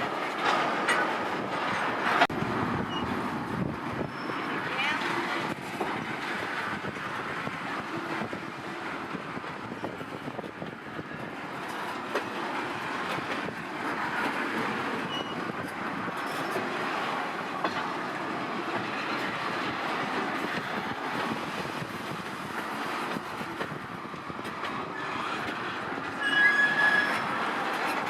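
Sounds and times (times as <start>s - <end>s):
freight train rumbling past: 0.0s - 28.0s
wheels clicking over rail joints: 0.0s - 28.0s.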